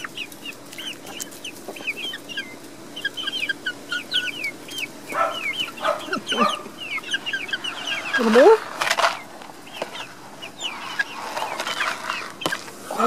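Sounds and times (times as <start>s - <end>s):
hens chirping: 0.0s - 13.0s
hens clucking: 0.0s - 13.0s.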